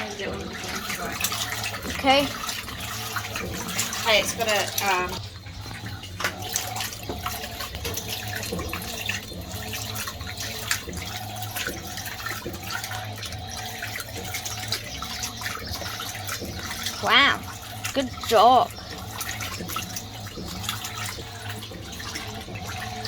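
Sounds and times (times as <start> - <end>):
washing machine motor hum: 0.0 - 23.0
washing machine water sloshing: 0.0 - 23.0.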